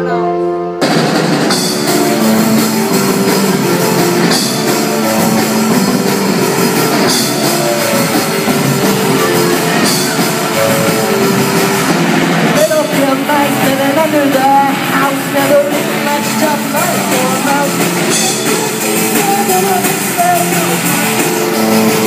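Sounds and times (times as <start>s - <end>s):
electric bass: 0.0s - 22.0s
keyboard: 0.0s - 22.0s
drum kit: 0.8s - 22.0s.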